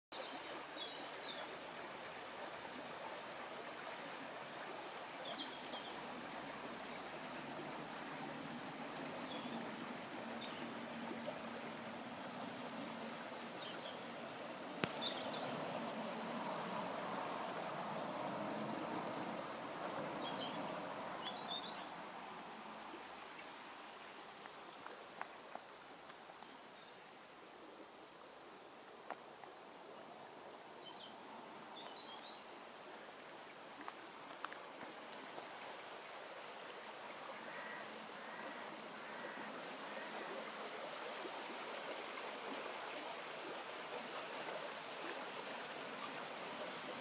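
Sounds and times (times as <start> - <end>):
running water: 0.1 - 47.0.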